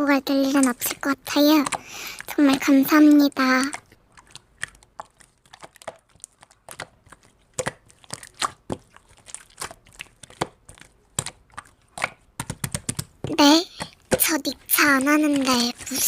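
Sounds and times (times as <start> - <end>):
slime squished by hand crackling: 0.3 - 16.0.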